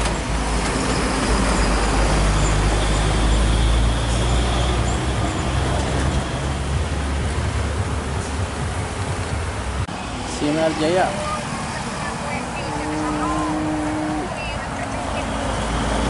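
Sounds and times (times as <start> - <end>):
cars passing with tyre noise: 0.0 - 16.0
truck and bus engine rumble: 0.0 - 16.0.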